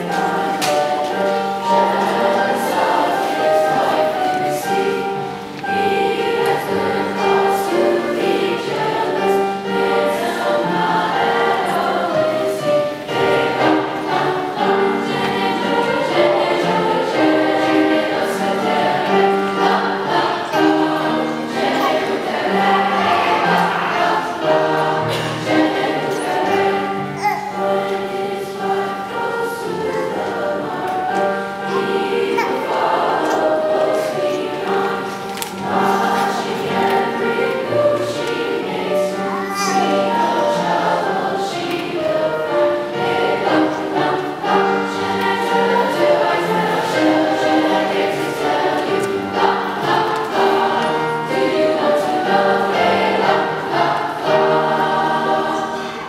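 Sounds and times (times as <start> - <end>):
choir singing: 0.0 - 56.0
piano accompaniment: 0.0 - 56.0.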